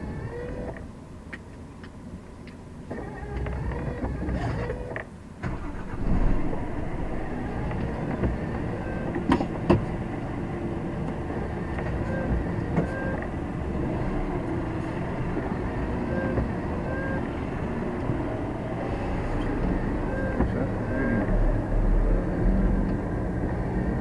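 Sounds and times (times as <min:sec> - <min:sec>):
lorry diesel engine: 0:00.0 - 0:24.0.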